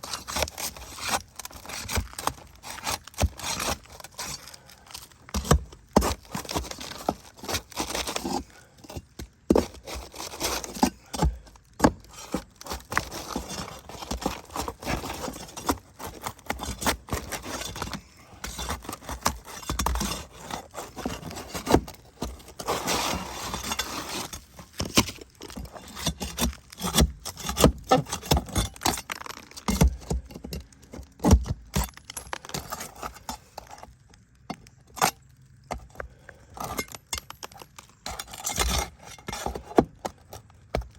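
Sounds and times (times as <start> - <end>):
scraping on roof shingles: 0.0 - 33.8.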